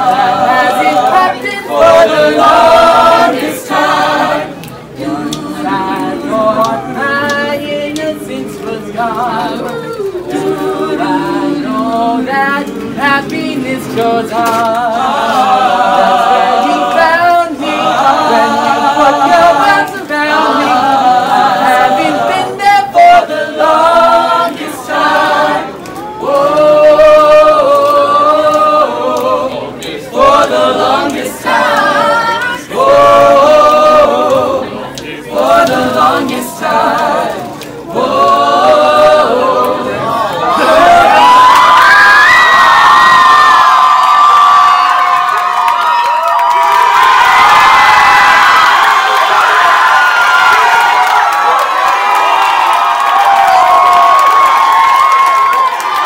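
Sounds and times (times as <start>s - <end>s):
young voices singing together: 0.0s - 56.0s.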